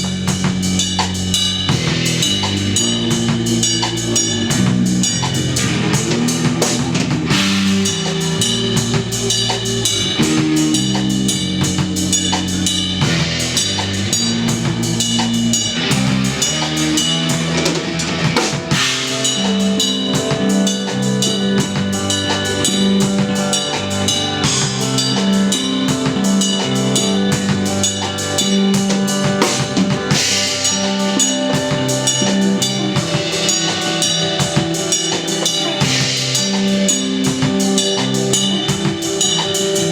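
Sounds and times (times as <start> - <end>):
drum kit beat: 0.0 - 39.9
electric bass notes: 0.0 - 39.9
electric guitar: 0.0 - 39.9.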